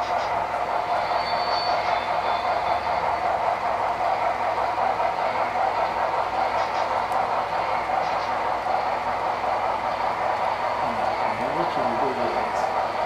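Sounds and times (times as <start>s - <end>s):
model train steam sound: 0.0s - 13.0s
model train wheels on track: 0.0s - 13.0s.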